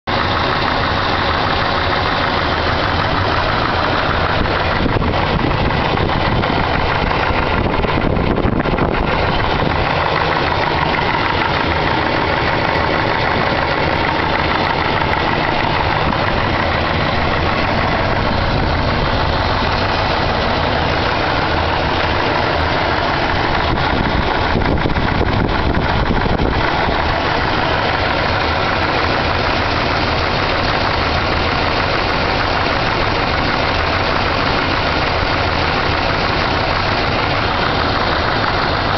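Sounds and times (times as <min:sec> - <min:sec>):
engine idling with a knock: 0:00.1 - 0:38.9.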